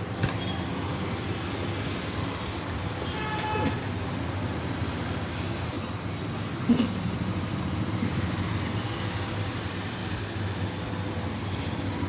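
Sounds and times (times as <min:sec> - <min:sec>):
roadside traffic hum: 0:00.0 - 0:12.0.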